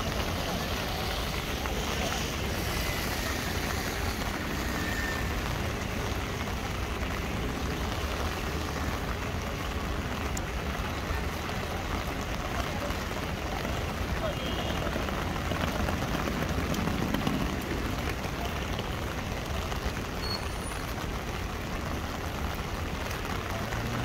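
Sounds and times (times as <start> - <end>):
rain on wet paving: 0.0 - 24.0
rain pattering on an umbrella: 0.0 - 24.0.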